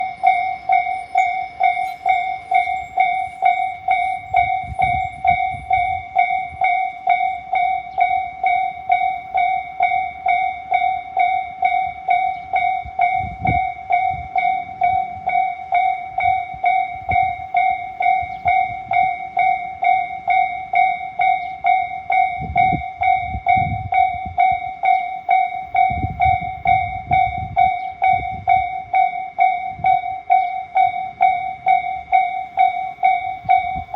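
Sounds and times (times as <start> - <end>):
level crossing warning bell: 0.0 - 33.9.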